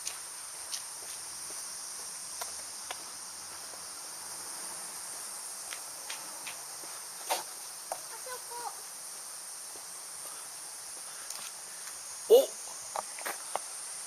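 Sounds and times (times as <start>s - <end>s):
cicadas droning: 0.0s - 14.0s.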